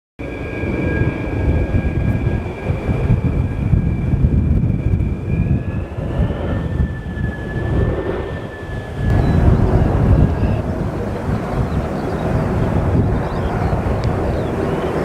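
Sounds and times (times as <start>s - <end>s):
high turbine whine: 0.2s - 15.0s
jet engines low rumble: 0.2s - 15.0s.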